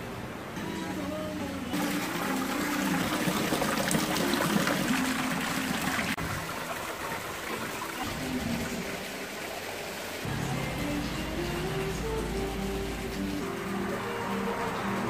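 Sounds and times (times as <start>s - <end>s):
water splashing into pond: 1.8s - 15.0s.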